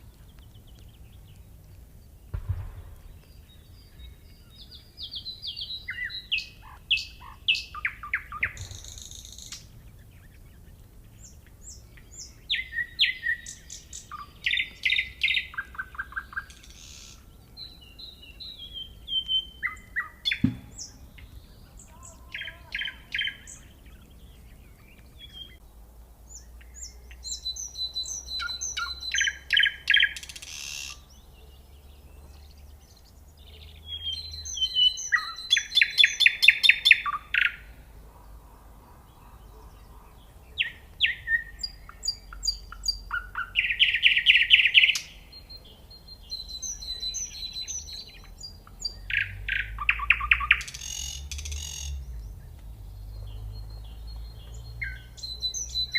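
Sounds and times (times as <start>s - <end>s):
nightingale singing: 0.0s - 25.7s, 26.3s - 55.9s.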